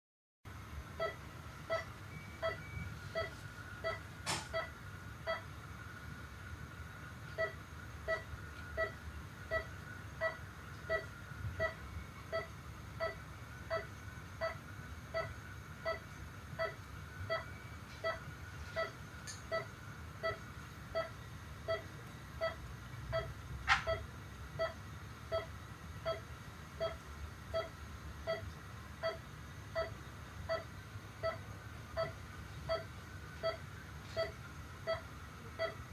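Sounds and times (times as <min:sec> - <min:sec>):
faint steady hum: 0:00.5 - 0:35.9
heart monitor beeping: 0:01.0 - 0:05.5, 0:07.4 - 0:35.9.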